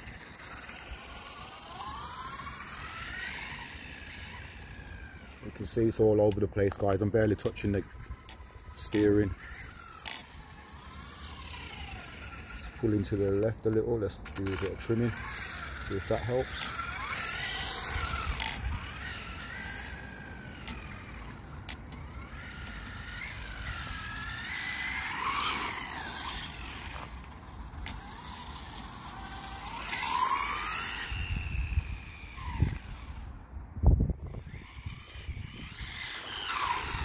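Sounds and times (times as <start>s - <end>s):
electric toy car motor whining: 0.0s - 37.0s.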